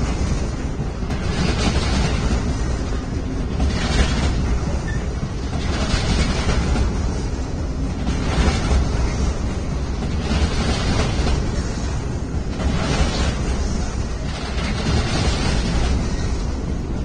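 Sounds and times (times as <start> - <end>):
freight train crossing steel bridge: 0.0 - 17.0.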